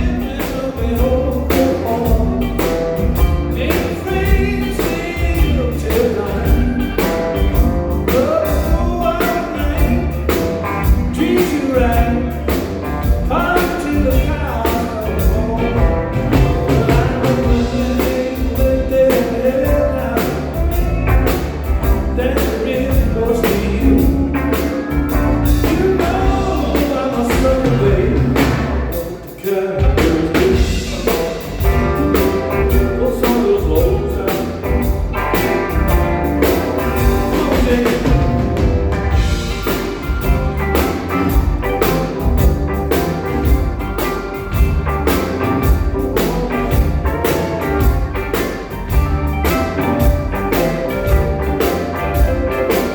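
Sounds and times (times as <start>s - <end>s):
person singing: 0.0s - 43.6s
bass: 0.0s - 52.9s
drum kit: 0.0s - 52.9s.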